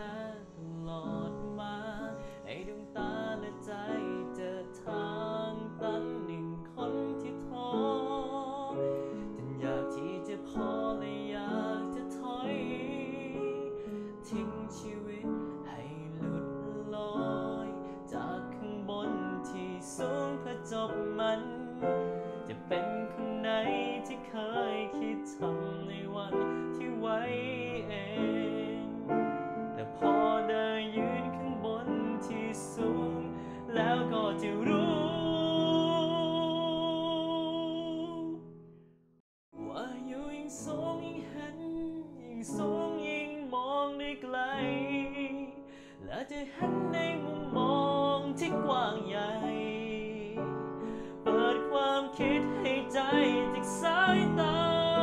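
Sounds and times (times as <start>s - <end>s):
man singing slow song: 0.0s - 38.5s, 39.6s - 55.0s
electronic keyboard: 0.0s - 38.6s, 39.6s - 55.0s.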